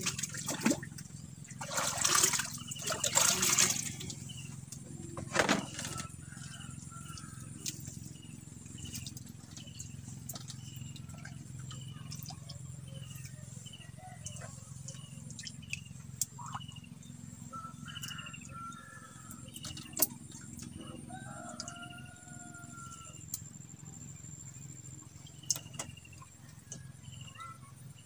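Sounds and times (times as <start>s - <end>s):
birds chirping: 0.0s - 28.0s
low steady hum: 0.0s - 28.0s.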